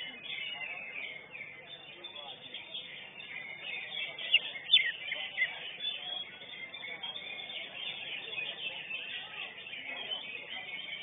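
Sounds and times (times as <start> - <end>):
bird singing chirps and whistles: 0.0 - 11.0
crowd chatter: 0.0 - 11.0.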